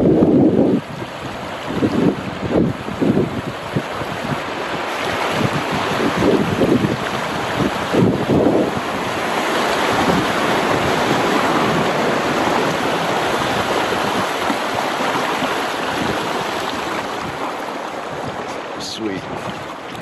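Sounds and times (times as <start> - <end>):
river water rushing over stones: 0.1 - 20.0.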